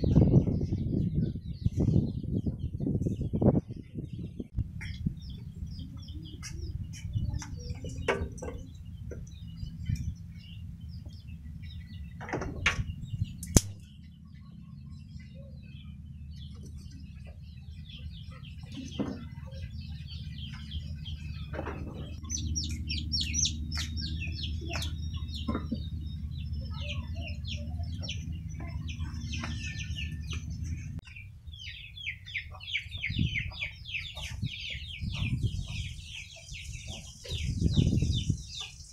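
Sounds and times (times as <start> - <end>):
birds chirping: 0.0 - 38.9
steady low hum: 0.0 - 38.9
chickens clucking: 4.8 - 13.4, 14.1 - 38.9.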